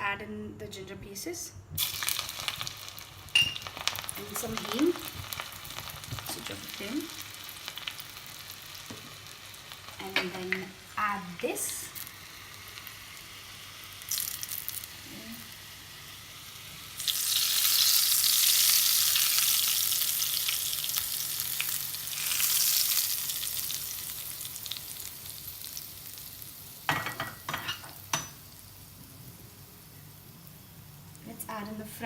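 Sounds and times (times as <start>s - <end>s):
hot oil sizzling: 1.8s - 32.0s.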